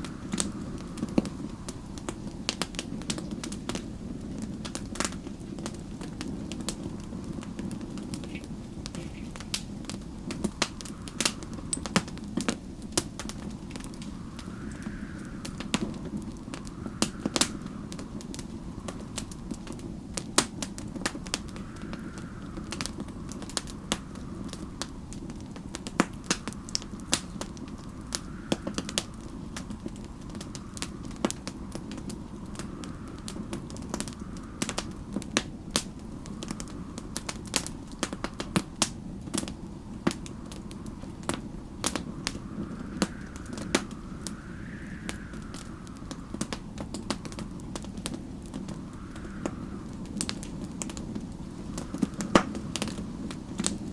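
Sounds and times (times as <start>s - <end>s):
low fire rumble: 0.0s - 53.9s
wind whistling: 0.0s - 53.9s
wood fire crackling: 0.0s - 53.9s.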